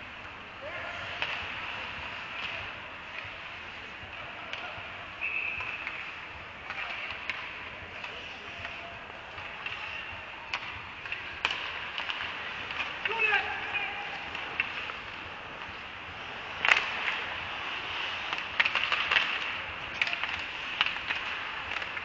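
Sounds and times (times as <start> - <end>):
hockey sticks and puck clacking: 0.0 - 22.0
skates scraping ice: 0.0 - 22.0.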